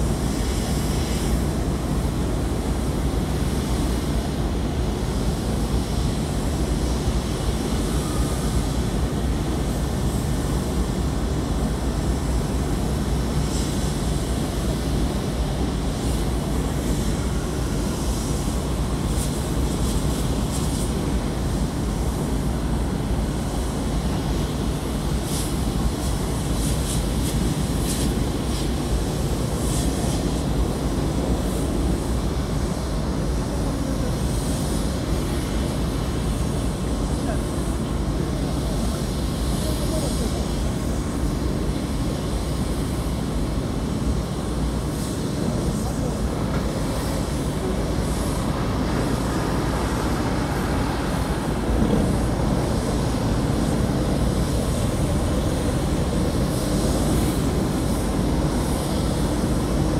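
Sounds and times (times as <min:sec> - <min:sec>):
hiss: 0:00.0 - 0:59.9.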